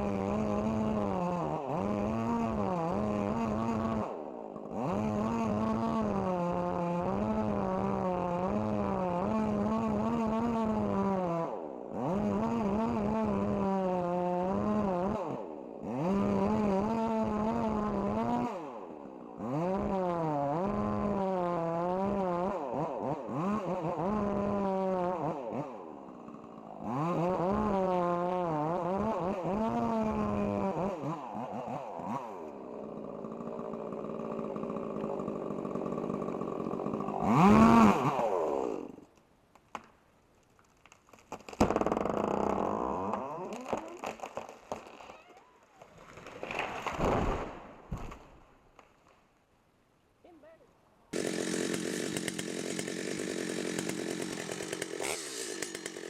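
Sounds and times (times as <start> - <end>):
chainsaw engine at high revs: 0.0 - 39.0, 41.6 - 45.2, 51.1 - 56.0.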